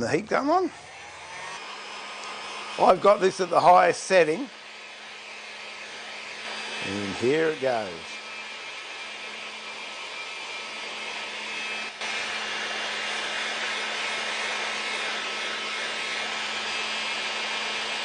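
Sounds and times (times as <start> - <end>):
heat gun blowing: 0.0 - 18.0.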